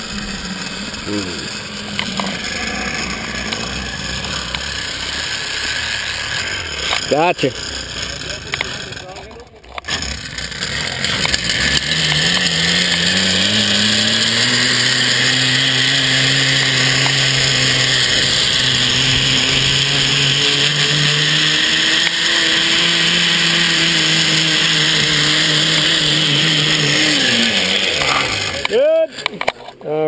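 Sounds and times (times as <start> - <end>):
zip line pulleys whining: 0.0 - 30.0.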